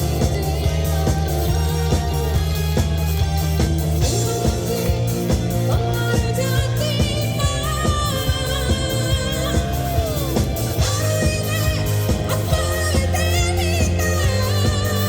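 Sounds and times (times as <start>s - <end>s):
drums: 0.0s - 15.0s
electric bass: 0.0s - 15.0s
electric guitar: 0.0s - 15.0s
singer with vibrato: 0.0s - 15.0s.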